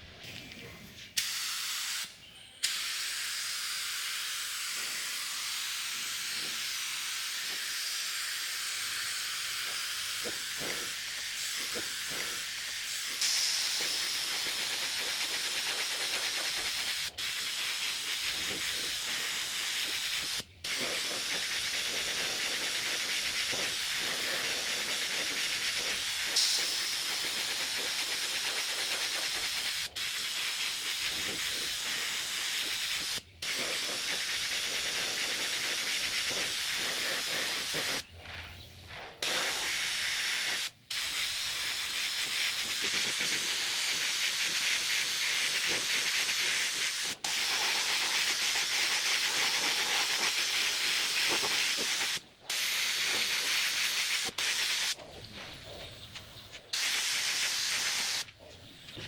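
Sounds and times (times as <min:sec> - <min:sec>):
paint spray gun hissing: 0:01.2 - 0:38.6, 0:39.2 - 0:55.0, 0:55.9 - 0:59.0.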